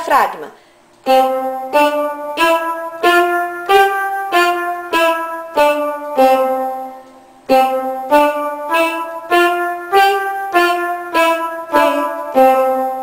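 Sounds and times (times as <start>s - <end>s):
keyboard playing single notes: 1.0s - 13.0s.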